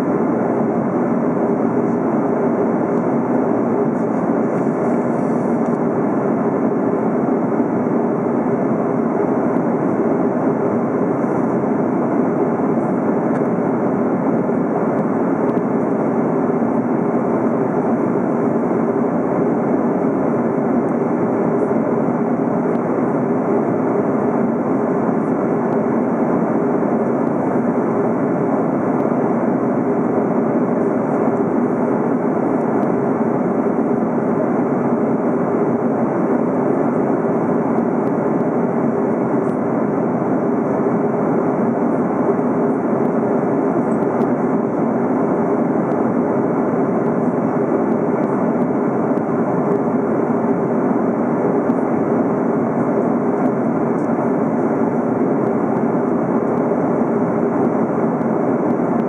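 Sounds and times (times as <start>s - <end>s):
airliner cabin engine rush: 0.0s - 59.0s
steady low hum: 0.0s - 59.0s.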